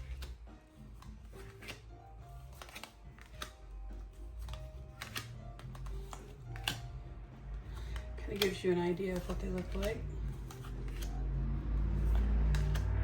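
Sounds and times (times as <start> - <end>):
cards clicking and tapping: 0.0 - 13.0
soft background music: 0.0 - 13.0.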